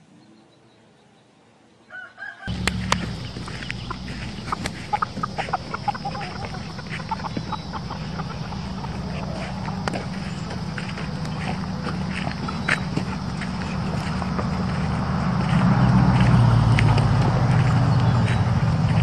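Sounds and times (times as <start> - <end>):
chickens clucking: 2.5 - 19.0.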